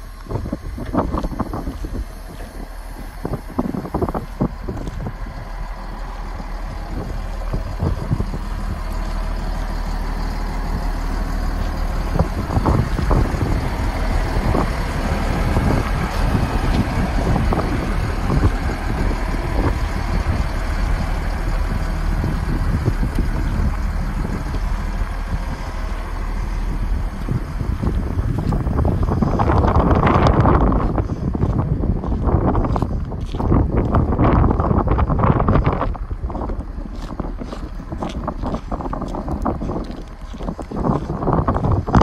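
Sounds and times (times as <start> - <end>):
wheel loader diesel engine running: 0.0 - 42.0.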